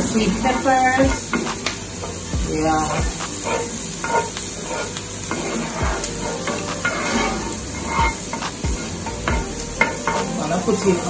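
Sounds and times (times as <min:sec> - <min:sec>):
vegetables sizzling in a skillet: 0:00.0 - 0:11.0
wooden spoon scraping a pan: 0:00.0 - 0:11.0.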